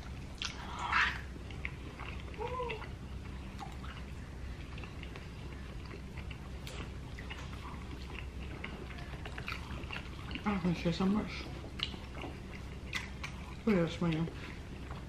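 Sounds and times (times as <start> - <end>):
quiet chewing: 0.0 - 15.0.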